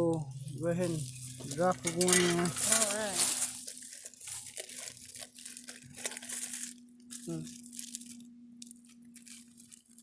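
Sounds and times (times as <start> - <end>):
crinkling rustling of small items: 0.1 - 10.0.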